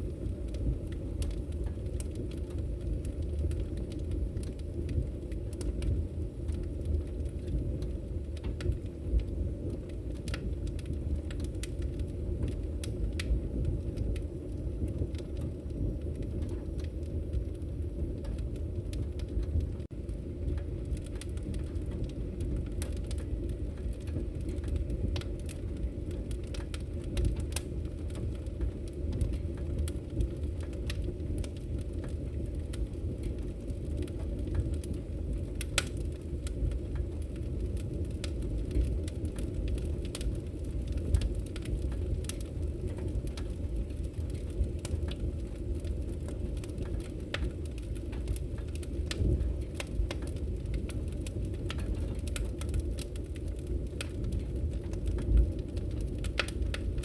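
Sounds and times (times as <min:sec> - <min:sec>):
burning wood crackling: 0:00.0 - 0:57.0
rumble of flames: 0:00.0 - 0:57.0.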